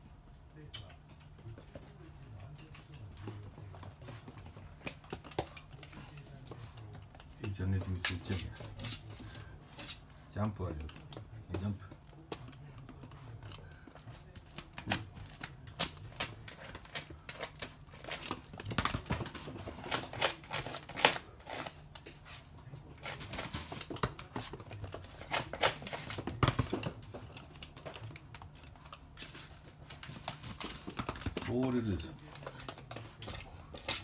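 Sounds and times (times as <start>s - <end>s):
dog claws clicking on hard floor: 0.7s - 34.0s.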